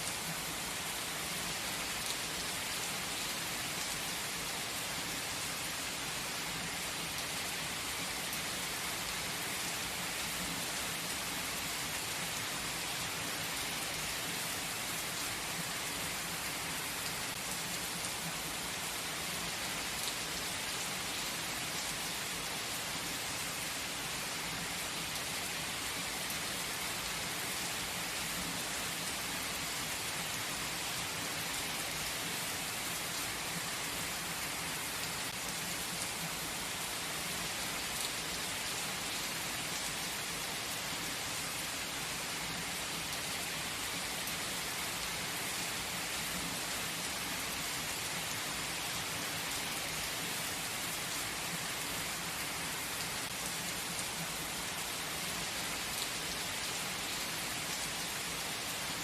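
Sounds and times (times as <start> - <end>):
gentle rain hissing: 0.0 - 59.0.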